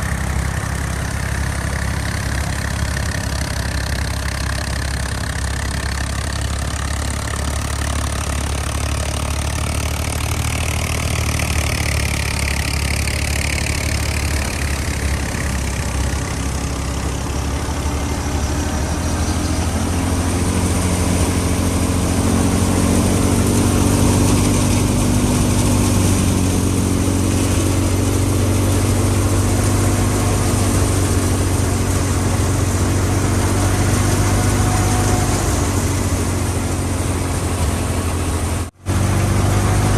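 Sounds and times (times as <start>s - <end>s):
thresher mechanical rumble: 0.0s - 39.9s
tractor engine running: 0.0s - 39.9s.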